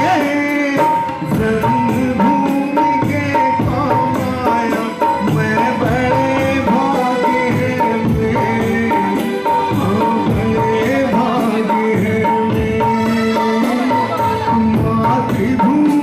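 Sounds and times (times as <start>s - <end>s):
man singing through microphone: 0.0s - 16.0s
tabla and percussion rhythm: 0.0s - 16.0s.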